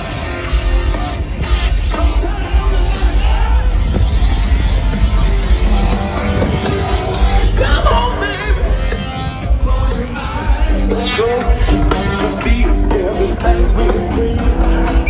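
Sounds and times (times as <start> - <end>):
live rock band playing: 0.0 - 15.0
male lead vocal singing: 0.0 - 15.0.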